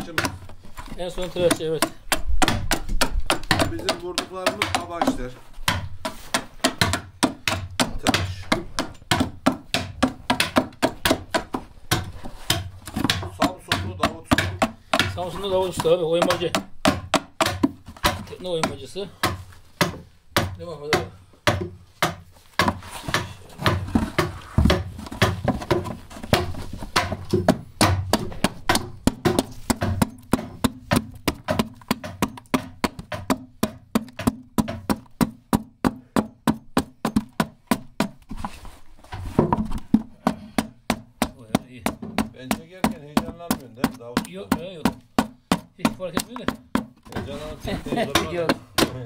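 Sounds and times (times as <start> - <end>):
adze chopping wood: 0.0 - 38.3, 39.3 - 49.0.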